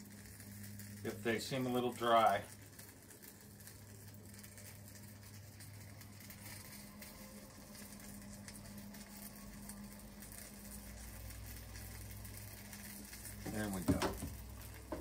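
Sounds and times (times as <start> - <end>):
low steady hum: 0.0 - 15.0
meat sizzling in a pan: 0.0 - 15.0.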